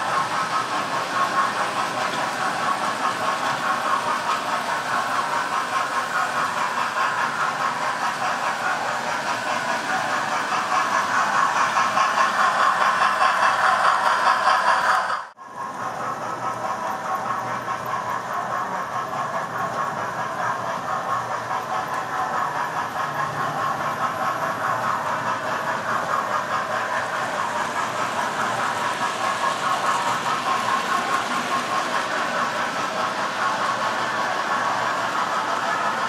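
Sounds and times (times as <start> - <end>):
model trains whirring: 0.0 - 36.0.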